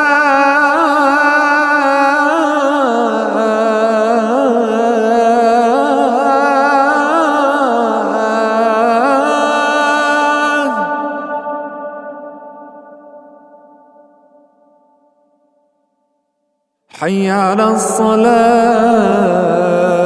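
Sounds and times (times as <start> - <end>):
person chanting call to prayer: 0.0 - 13.5, 16.9 - 20.0.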